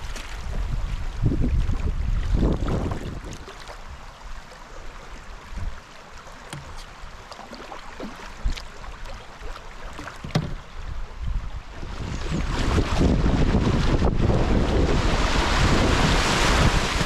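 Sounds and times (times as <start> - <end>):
paddle strokes in water: 0.0 - 17.0.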